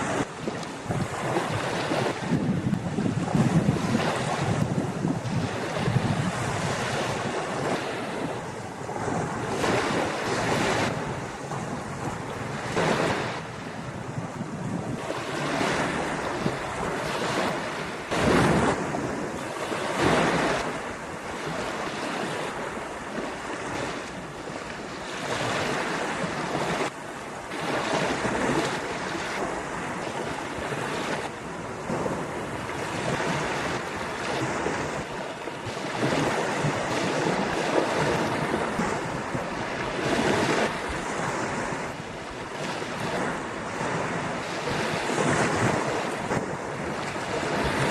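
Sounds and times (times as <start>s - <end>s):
ocean waves breaking on beach: 0.0s - 47.9s
wind buffeting microphone: 0.0s - 47.9s.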